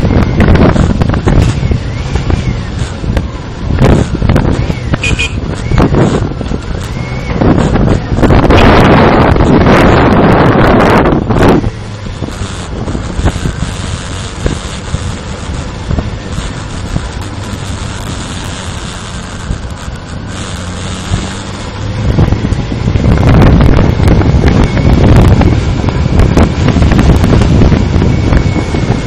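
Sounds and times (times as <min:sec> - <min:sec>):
motorcycle engine running: 0:00.0 - 0:29.0
wind noise on microphone: 0:00.0 - 0:29.0.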